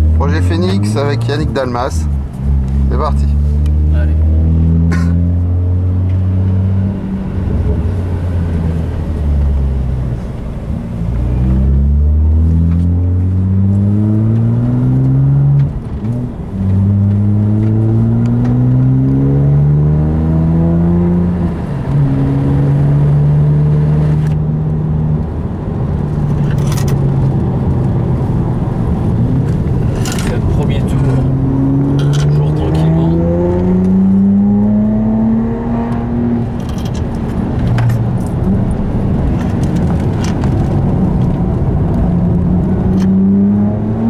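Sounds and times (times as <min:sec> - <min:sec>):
car engine accelerating from cabin: 0:00.0 - 0:44.0.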